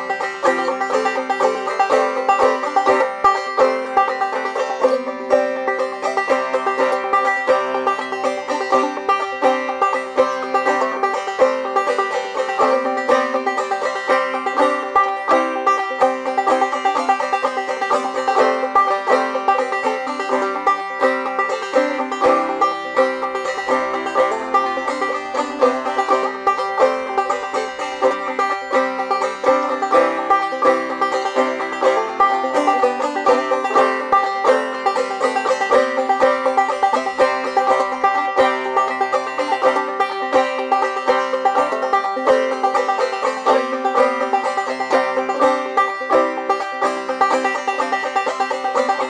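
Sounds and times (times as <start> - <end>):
banjo plucking tune: 0.0 - 49.0.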